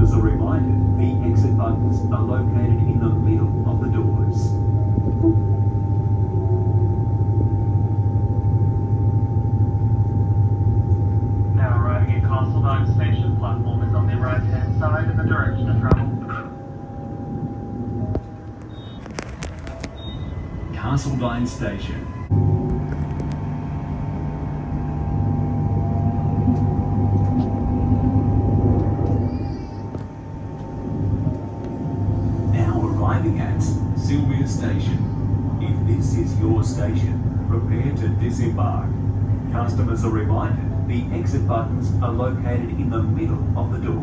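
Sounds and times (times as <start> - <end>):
train rumbling on rails: 0.0 - 16.3, 17.0 - 44.0
constant high hum: 0.0 - 44.0.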